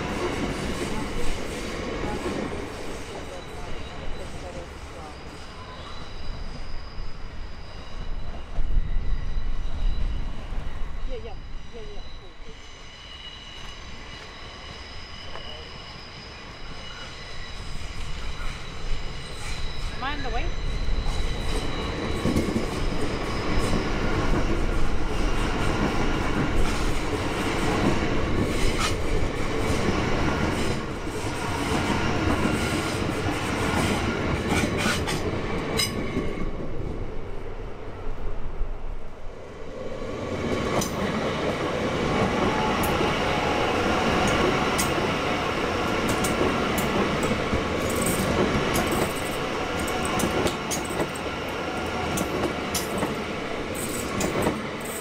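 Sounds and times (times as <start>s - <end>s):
train passing close by: 0.0s - 55.0s
wheels on rail: 0.0s - 55.0s.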